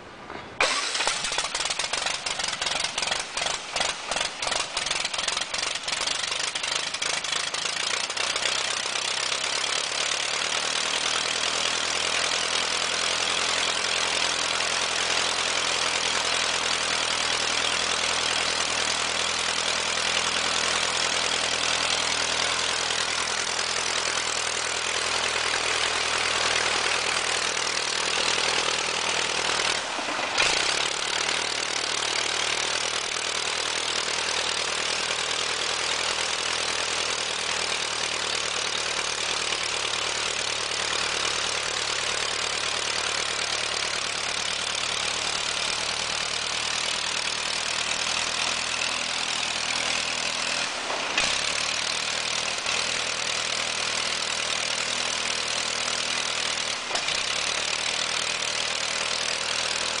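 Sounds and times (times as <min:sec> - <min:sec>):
piston engine idling: 0:00.6 - 1:00.0.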